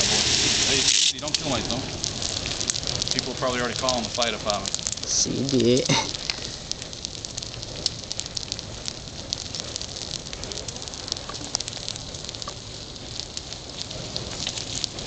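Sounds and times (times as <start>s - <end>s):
fire crackling and popping: 0.0s - 15.0s
steady hiss: 0.0s - 15.0s.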